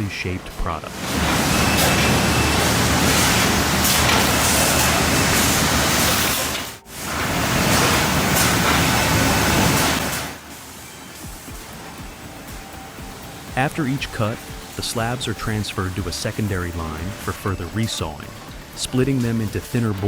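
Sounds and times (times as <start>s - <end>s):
sawmill machinery running: 0.1s - 20.0s.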